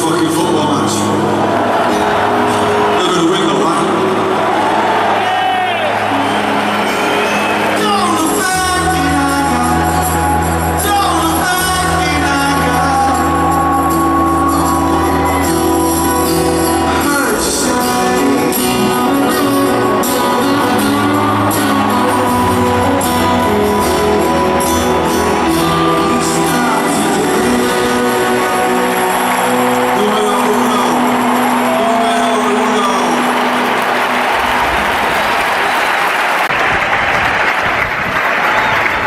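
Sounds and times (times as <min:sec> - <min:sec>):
live band music over pa: 0:00.0 - 0:39.0.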